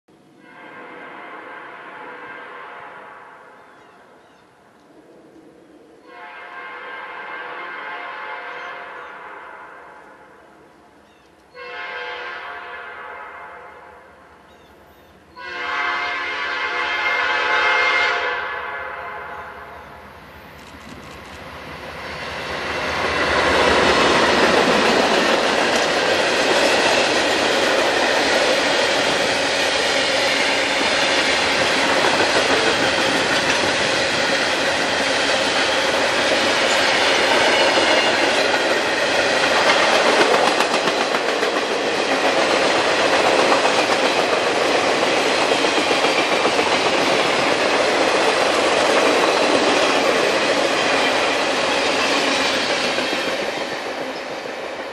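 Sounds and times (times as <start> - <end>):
freight train rolling past: 0.2 - 54.9.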